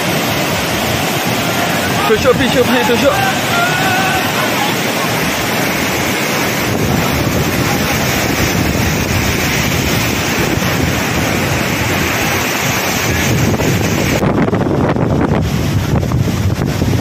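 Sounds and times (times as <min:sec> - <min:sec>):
loud steady rushing noise: 0:00.0 - 0:17.0.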